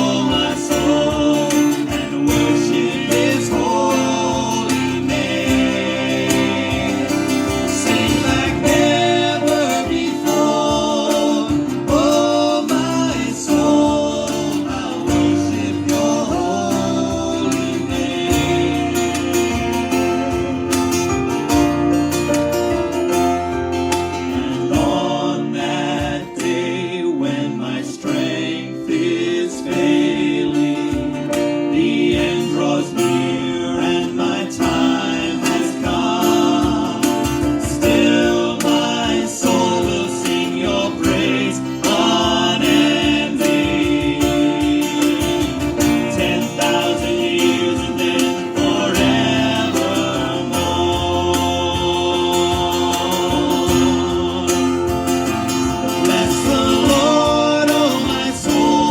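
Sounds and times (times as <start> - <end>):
person singing: 0.0 - 21.6, 23.9 - 58.9
strummed acoustic guitar: 0.0 - 58.9.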